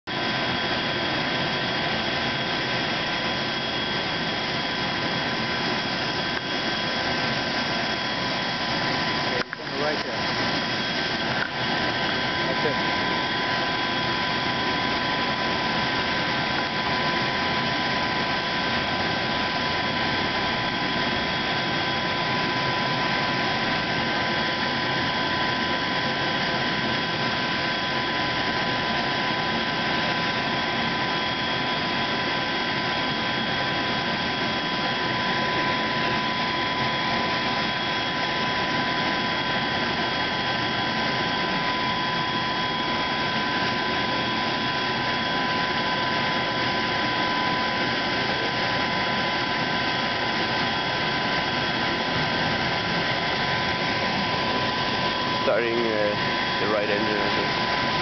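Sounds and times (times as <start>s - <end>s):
jet turbine idling with whine: 0.0s - 58.0s.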